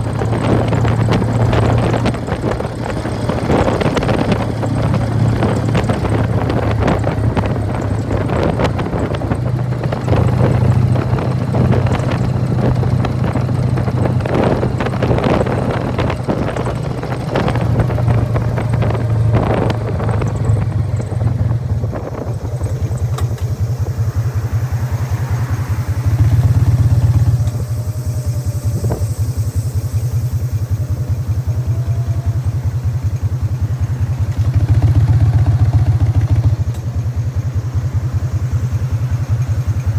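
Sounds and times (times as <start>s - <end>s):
motorcycle engine: 0.0s - 39.9s
primary drive rattle: 0.0s - 39.9s
rushing wind noise: 0.0s - 39.9s.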